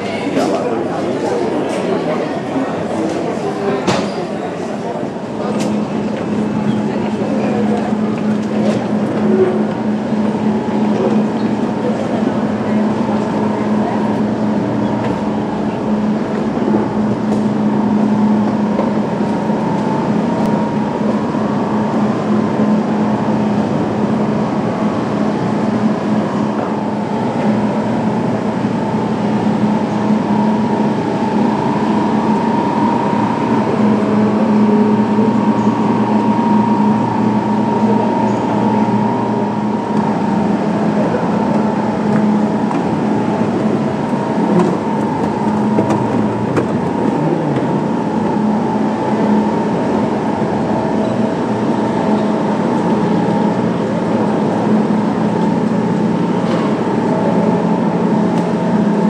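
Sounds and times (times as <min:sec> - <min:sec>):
busy station platform noise: 0:00.0 - 0:59.0
train equipment humming: 0:00.0 - 0:59.0.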